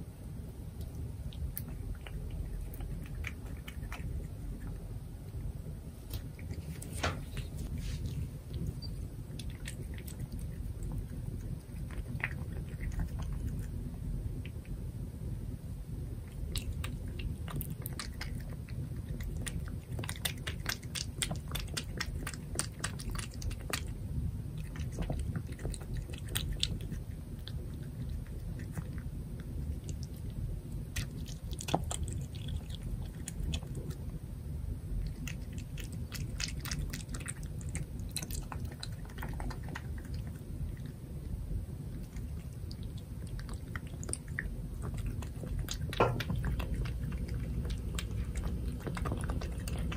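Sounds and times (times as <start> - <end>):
cat eating wet food: 0.0 - 49.9.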